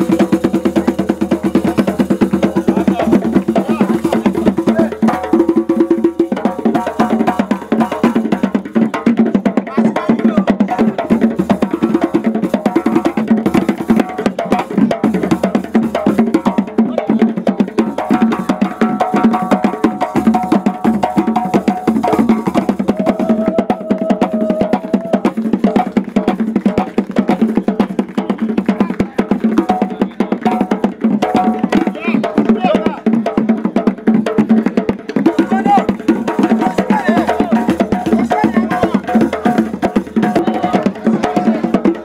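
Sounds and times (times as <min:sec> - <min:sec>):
hand drums beating dance rhythm: 0:00.0 - 0:42.0.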